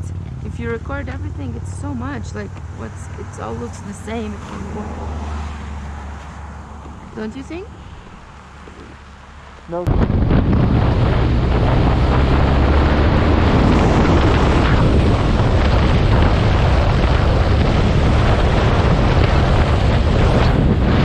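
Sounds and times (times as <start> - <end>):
motorcycle engine drone: 0.0 - 21.0
wind buffeting microphone: 0.0 - 21.0.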